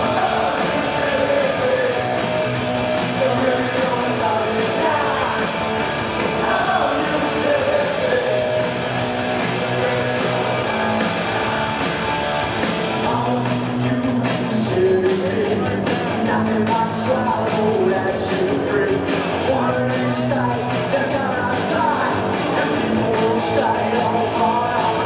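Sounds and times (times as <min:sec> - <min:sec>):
person singing lead vocal: 0:00.0 - 0:10.6, 0:13.0 - 0:25.0
electric guitars: 0:00.0 - 0:25.0
steady drum beat: 0:00.0 - 0:25.0.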